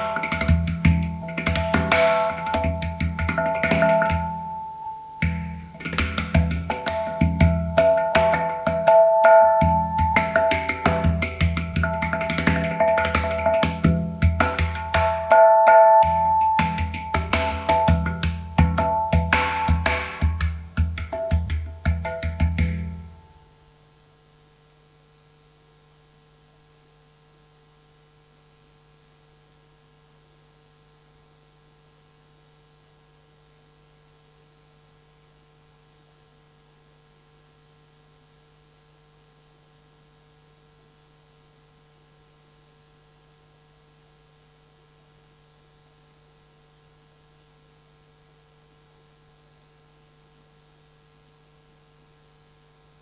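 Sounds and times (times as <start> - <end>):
faint electrical hum: 0.0 - 53.0.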